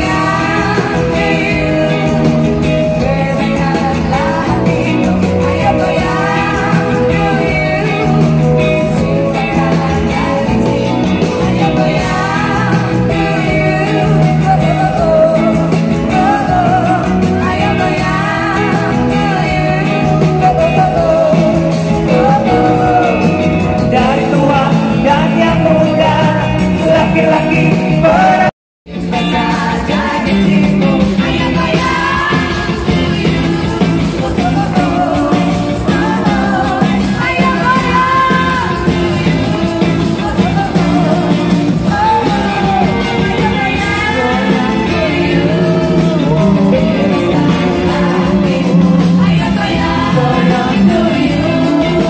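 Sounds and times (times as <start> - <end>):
live pop band over pa system: 0.0 - 52.0
people singing: 0.0 - 52.0.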